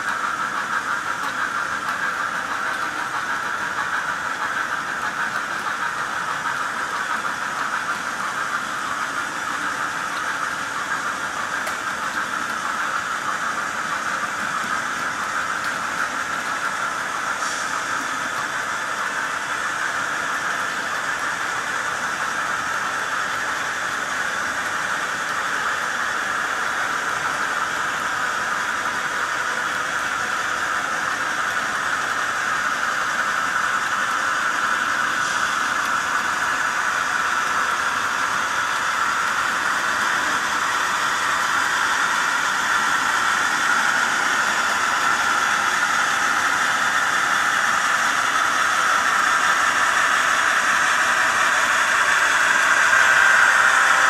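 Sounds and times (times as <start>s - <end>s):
model train wheels rolling: 0.0s - 54.0s.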